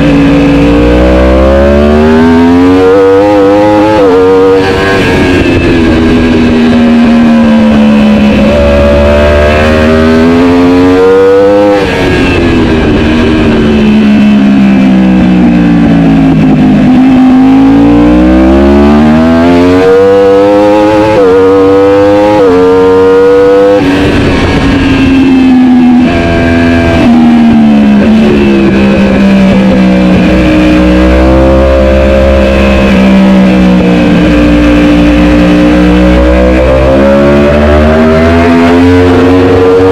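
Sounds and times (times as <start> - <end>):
motorcycle engine revving hard: 0.0 - 39.9.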